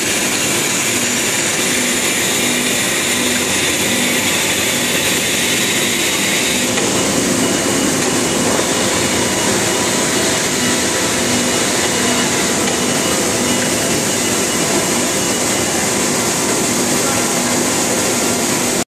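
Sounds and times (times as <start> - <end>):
machinery hiss: 0.0 - 18.8.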